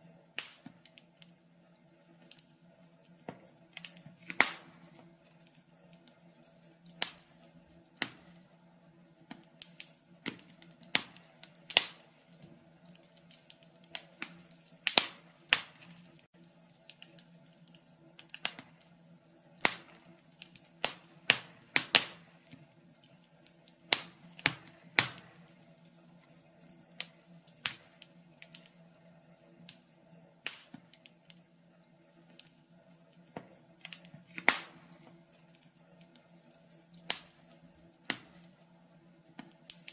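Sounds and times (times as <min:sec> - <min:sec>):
fireplace logs crackling: 0:00.0 - 0:39.9.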